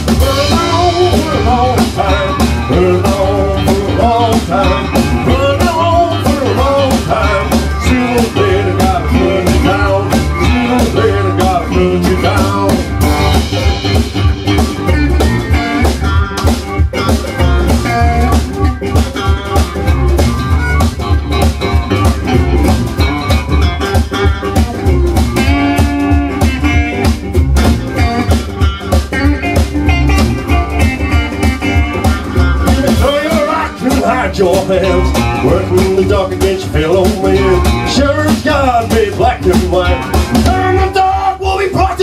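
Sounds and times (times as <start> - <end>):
resonator guitar: 0.0 - 41.9
drums keeping a beat: 0.0 - 42.0
electric guitar: 0.0 - 42.0
harmonica: 0.2 - 38.7.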